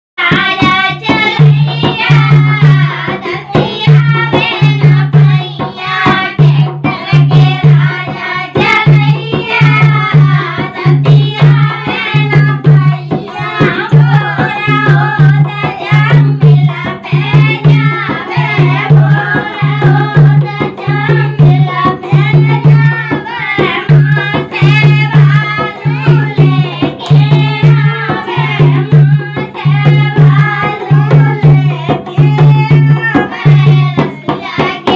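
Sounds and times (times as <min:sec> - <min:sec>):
hand drum beat: 0:00.2 - 0:34.9
person singing folk song: 0:00.2 - 0:34.9.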